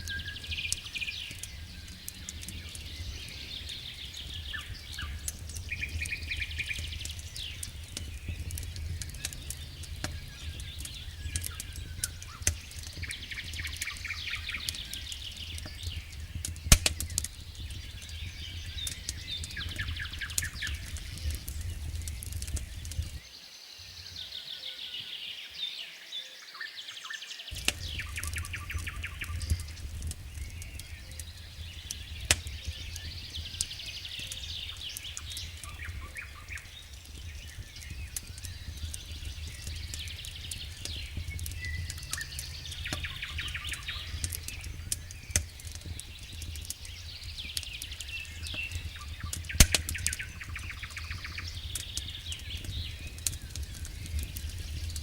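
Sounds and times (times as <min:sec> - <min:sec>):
low rumble: 0:00.0 - 0:23.2, 0:27.6 - 0:55.0
wood fire crackling: 0:00.0 - 0:23.3, 0:27.5 - 0:55.0.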